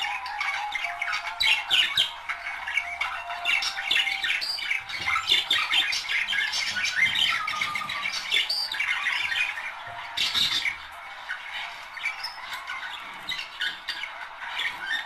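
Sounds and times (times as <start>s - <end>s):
budgerigars chattering and chirping: 0.0s - 15.0s.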